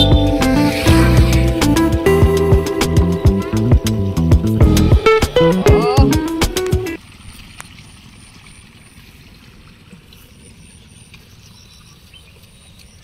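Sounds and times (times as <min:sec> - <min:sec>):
water running in channel: 0:00.0 - 0:13.0.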